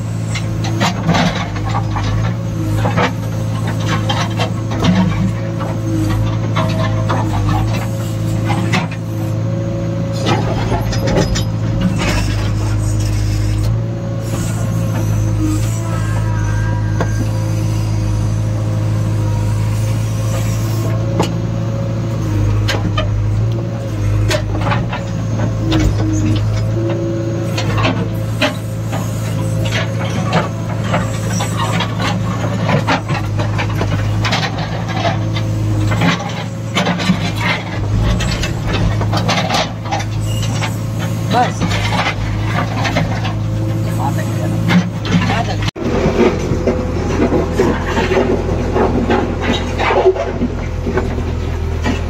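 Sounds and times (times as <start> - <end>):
diesel engine running under load: 0.0 - 52.0.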